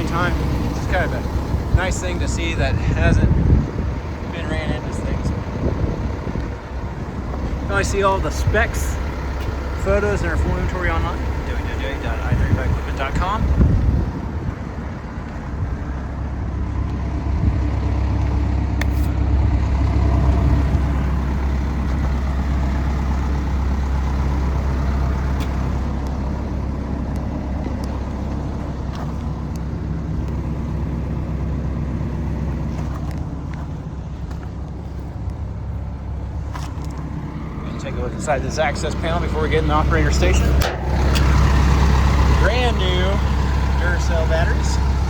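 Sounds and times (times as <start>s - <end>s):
excavator diesel engine idling: 0.0s - 45.0s.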